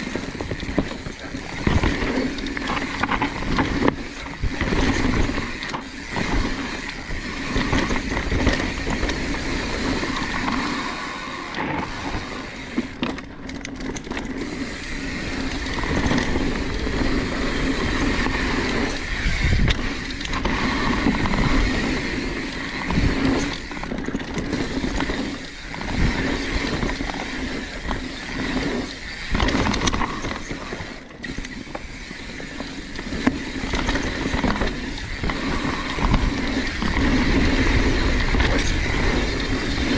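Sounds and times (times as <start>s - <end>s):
bike clunks and rattles: 0.0s - 39.9s
rush of tyre and wind noise: 0.0s - 39.9s.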